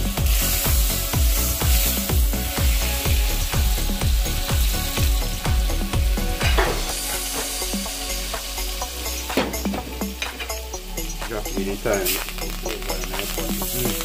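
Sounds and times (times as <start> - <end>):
food sizzling in a hot pan: 0.0 - 14.0
low thudding beat: 0.0 - 14.0.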